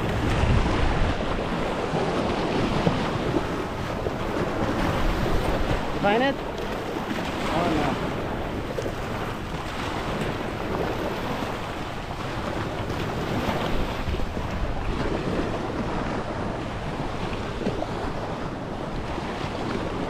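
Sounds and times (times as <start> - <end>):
small waves washing at shore: 0.0 - 20.0
wind rumbling on microphone: 0.0 - 20.0.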